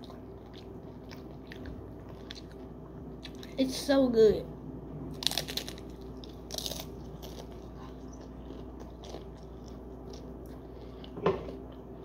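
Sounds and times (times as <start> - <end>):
chewing crunchy chips: 0.0 - 3.6, 5.1 - 12.0
steady low hum: 0.0 - 12.0.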